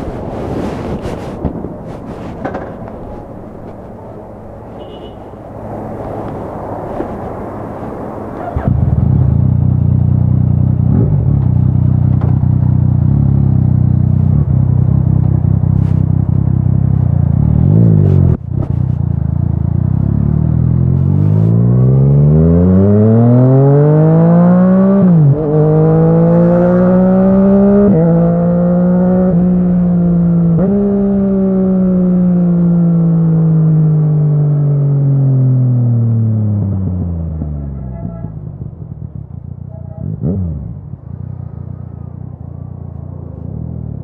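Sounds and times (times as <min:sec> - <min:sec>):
motorcycle engine accelerating: 0:05.6 - 0:44.0.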